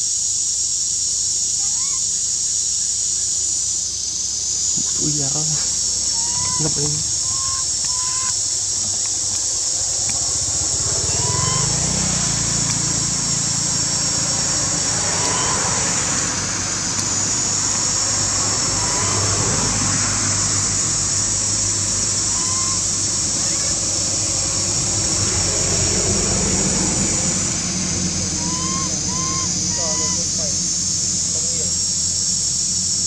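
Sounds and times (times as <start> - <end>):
high-pitched insect drone: 0.0 - 33.0
low motor hum: 2.9 - 33.0.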